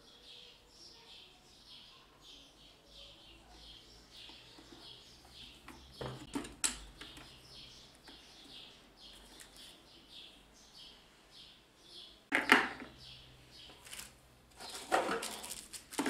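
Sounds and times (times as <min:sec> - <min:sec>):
small bird chirping: 0:00.0 - 0:15.9.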